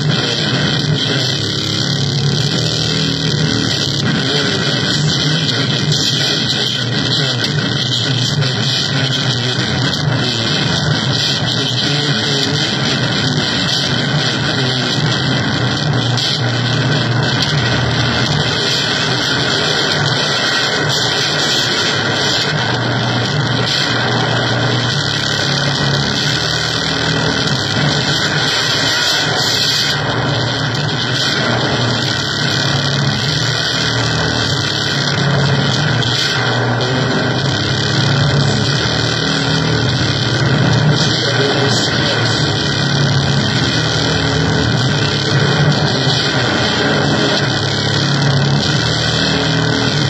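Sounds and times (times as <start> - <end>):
electronic noise music: 0.0 - 50.0
low continuous drone: 0.0 - 50.0.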